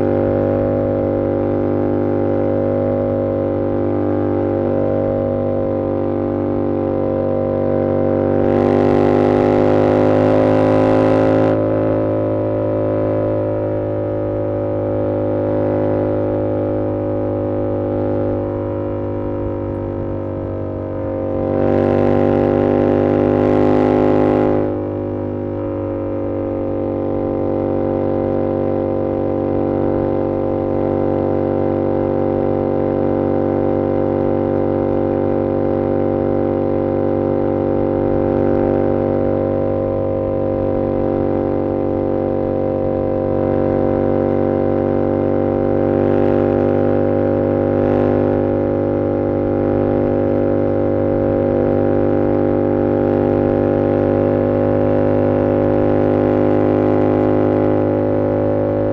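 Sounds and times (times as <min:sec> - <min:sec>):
motorcycle engine cruising: 0:00.0 - 0:58.9.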